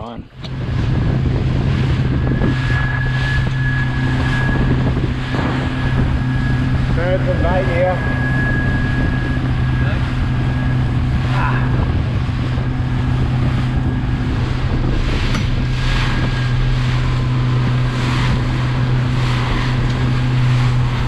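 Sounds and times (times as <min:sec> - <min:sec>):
motorboat engine hum: 0:00.0 - 0:21.0
water rushing along hull: 0:00.0 - 0:21.0
wind on microphone: 0:00.0 - 0:21.0.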